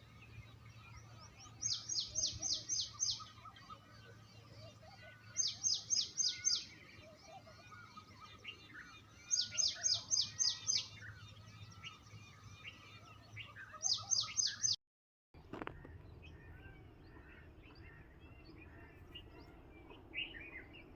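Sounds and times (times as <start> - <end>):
faint bird calls: 0.0 - 14.8, 15.4 - 20.9
songbird singing: 0.0 - 14.8, 15.4 - 20.9.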